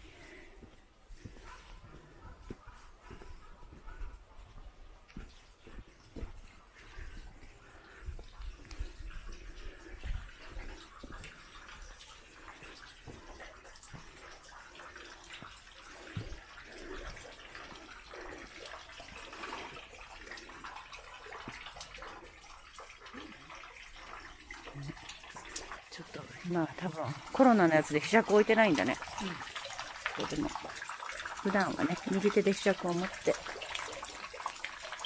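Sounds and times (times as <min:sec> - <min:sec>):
water trickling into basin: 0:00.0 - 0:35.0.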